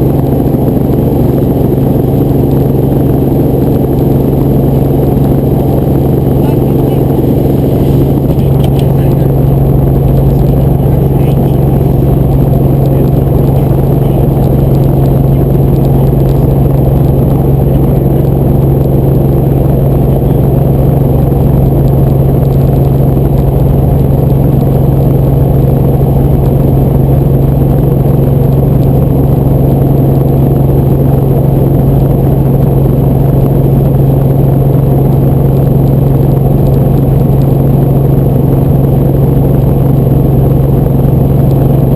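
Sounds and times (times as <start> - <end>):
helicopter drone: 0.0 - 41.9.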